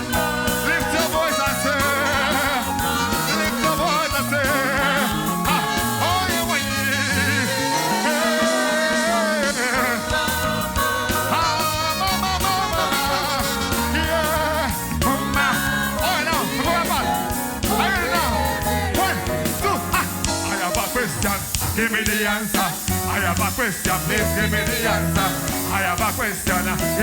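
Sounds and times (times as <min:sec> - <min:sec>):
band with bass and drums: 0:00.0 - 0:27.0
gospel singer holding notes: 0:00.0 - 0:27.0.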